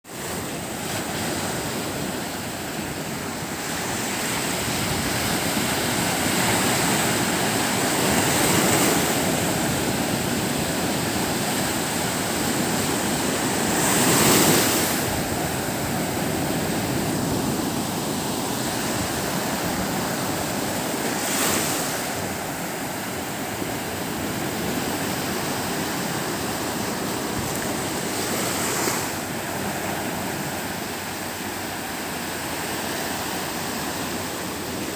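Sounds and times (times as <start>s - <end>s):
sea waves breaking ashore: 0.0s - 34.9s.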